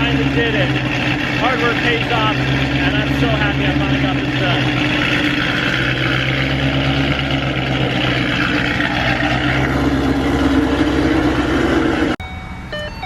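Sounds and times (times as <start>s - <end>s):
vee-eight engine idling loudly: 0.0s - 12.2s.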